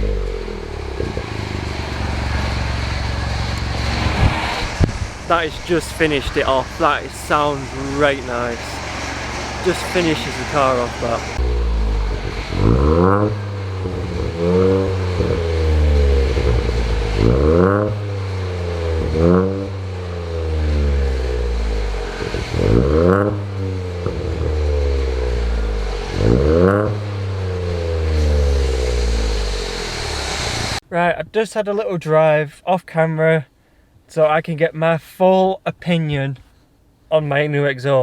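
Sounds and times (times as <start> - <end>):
car engine revving: 0.0 - 30.8.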